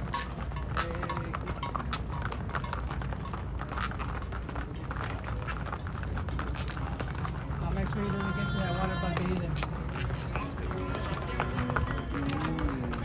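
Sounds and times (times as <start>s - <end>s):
hooves clopping on pavement: 0.0s - 13.0s.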